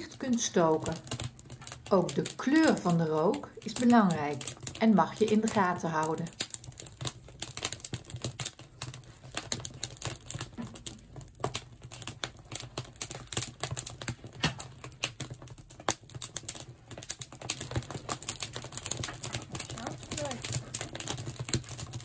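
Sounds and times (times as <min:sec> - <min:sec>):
firewood crackling and popping: 0:00.0 - 0:22.0.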